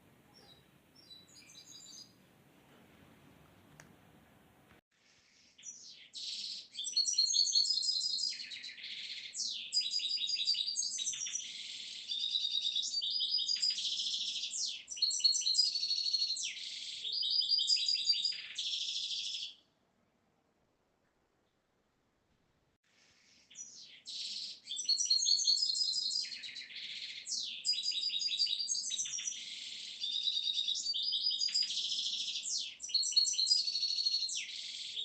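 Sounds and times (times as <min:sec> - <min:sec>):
songbirds chirping and trilling: 0:00.0 - 0:02.3, 0:05.0 - 0:19.8, 0:22.9 - 0:35.0.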